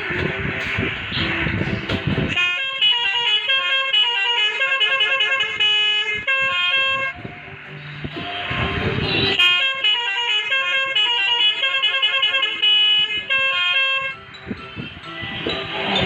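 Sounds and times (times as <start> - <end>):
engine and road noise: 0.0 - 16.0
musical horn playing a tune: 2.2 - 7.3, 8.2 - 16.0.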